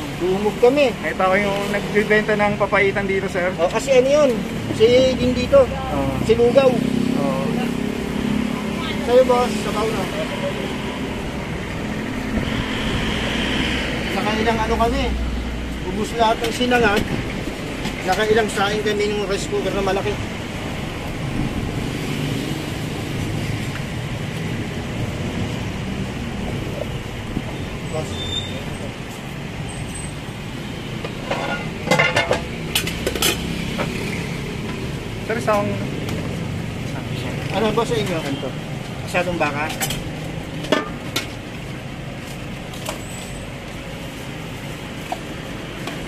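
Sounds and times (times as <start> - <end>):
road traffic rumble: 0.0 - 46.0
vehicle engines running: 0.0 - 46.0.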